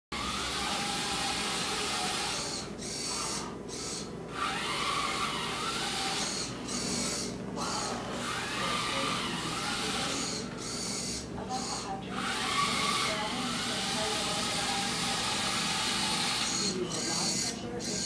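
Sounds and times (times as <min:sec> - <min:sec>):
small gear motors whining: 0:00.1 - 0:18.0.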